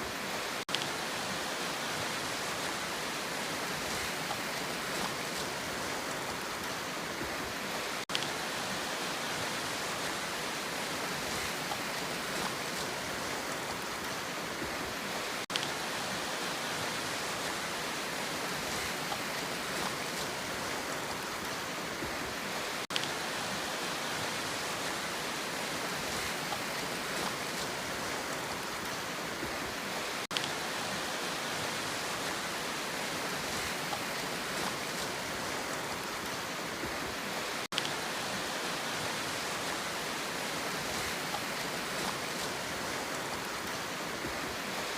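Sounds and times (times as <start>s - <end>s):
surf noise: 0.0s - 44.9s.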